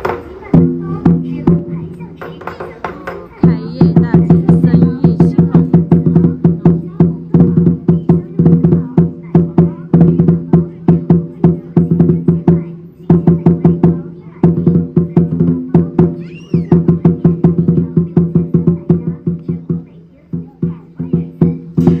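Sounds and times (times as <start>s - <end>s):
drum beaten in fast strokes: 0.0s - 22.0s.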